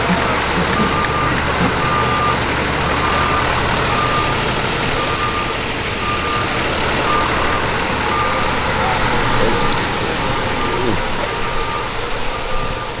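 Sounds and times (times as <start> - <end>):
vehicle reversing alarm beeps: 0.0 - 13.0.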